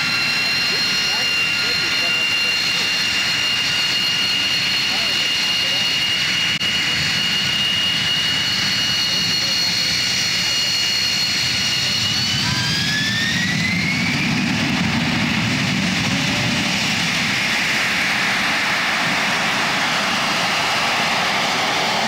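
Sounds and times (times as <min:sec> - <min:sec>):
jet engine whine: 0:00.0 - 0:22.0
loud jet noise: 0:00.0 - 0:22.0.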